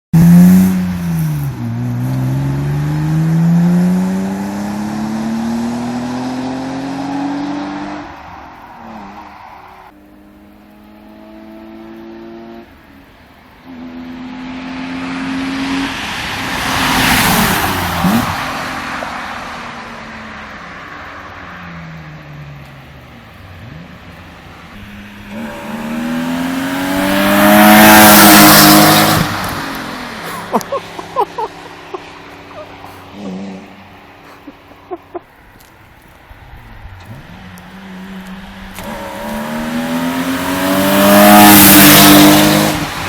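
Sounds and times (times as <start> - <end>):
car engine accelerating: 0.1 - 9.3, 13.4 - 43.0.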